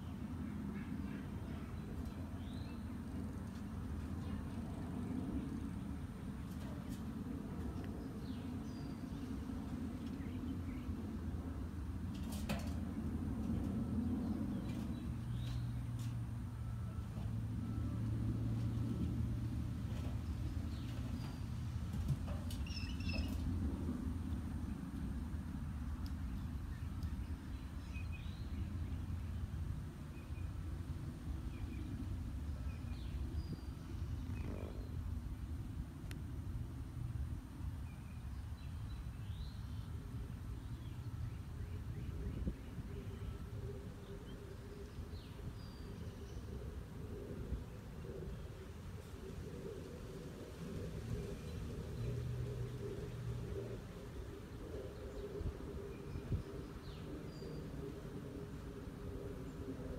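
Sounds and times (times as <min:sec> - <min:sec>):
steady low rumble: 0:00.0 - 0:59.9
low hum: 0:00.1 - 0:59.9.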